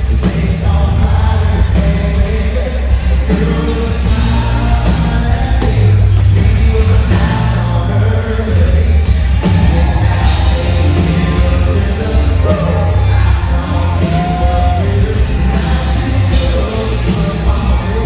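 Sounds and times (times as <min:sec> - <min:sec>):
live country band playing: 0:00.0 - 0:18.0
man singing into a microphone: 0:00.0 - 0:18.0.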